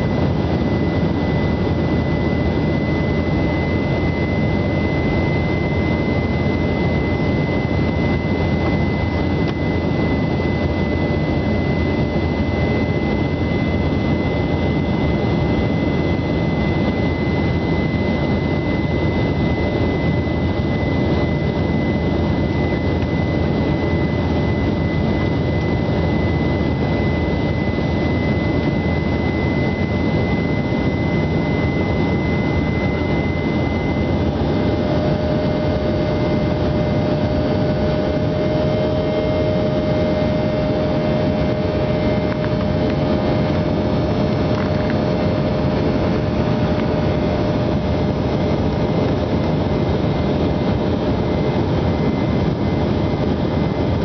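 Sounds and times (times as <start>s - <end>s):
aircraft engines droning: 0.0s - 54.0s
high-pitched engine whine: 0.0s - 54.0s.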